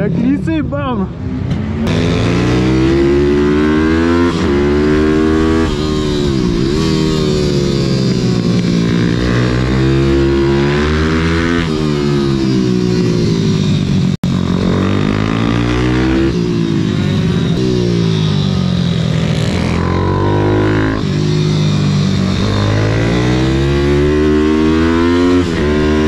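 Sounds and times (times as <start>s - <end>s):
motorbike engine at speed: 1.3s - 26.0s.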